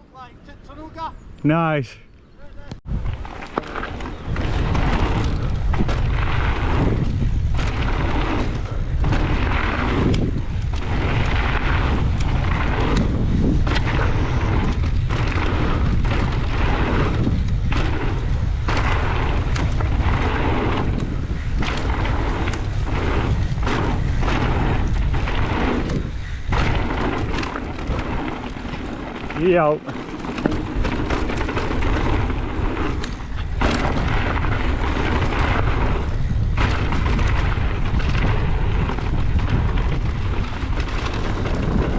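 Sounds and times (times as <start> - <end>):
wind buffeting camera microphone: 2.2 - 41.9.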